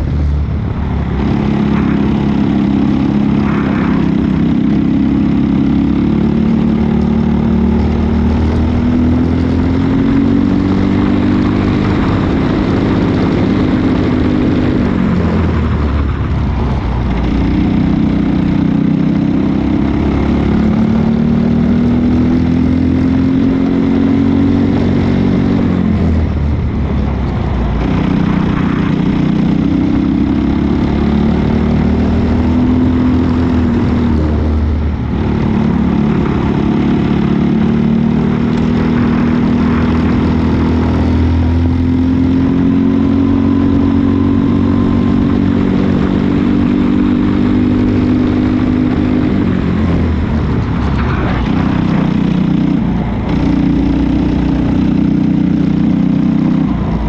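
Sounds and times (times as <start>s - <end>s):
kart engine revving: 0.0s - 16.3s, 17.1s - 26.9s, 27.6s - 57.0s.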